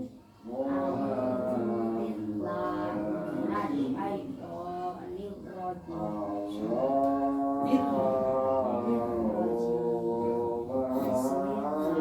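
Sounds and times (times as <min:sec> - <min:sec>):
child chanting: 0:00.0 - 0:12.0.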